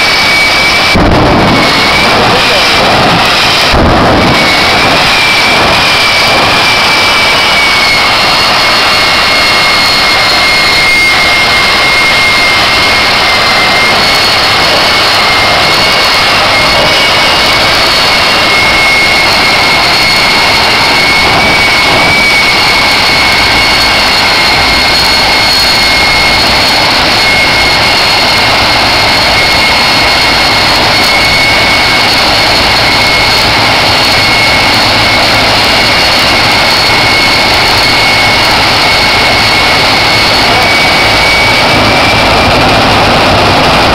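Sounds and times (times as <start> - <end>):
turbine engine rushing and whining: 0.0 - 43.9.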